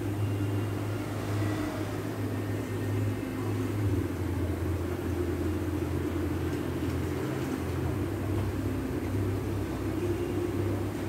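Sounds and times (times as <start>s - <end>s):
faint higher hum: 0.0s - 11.0s
low mechanical hum: 0.0s - 11.0s.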